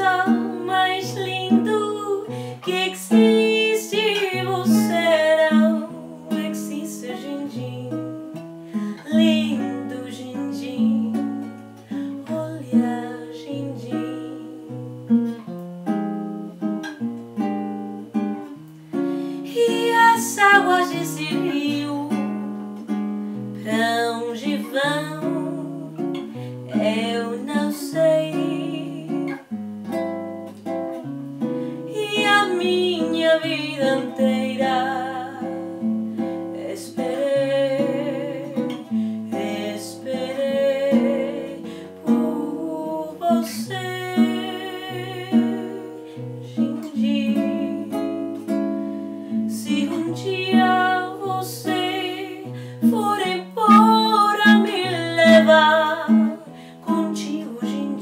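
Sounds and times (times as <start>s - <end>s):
woman singing: 0.0s - 14.9s, 19.4s - 29.5s, 31.8s - 48.6s, 49.3s - 58.0s
fingerstyle acoustic guitar: 0.0s - 58.0s.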